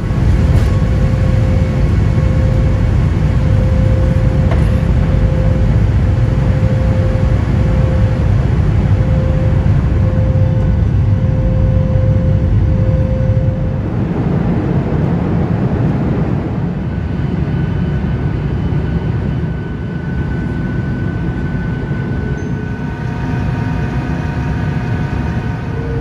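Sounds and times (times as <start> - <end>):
faint steady whine: 0.0 - 26.0
higher whine: 0.0 - 26.0
jet engines and rushing air: 0.0 - 26.0.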